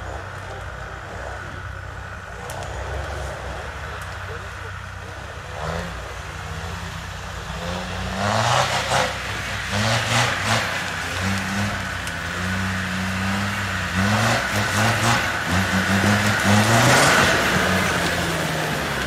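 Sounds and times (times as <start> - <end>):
diesel engine revving: 0.0 - 19.0
tyres rushing over ground: 0.0 - 19.0.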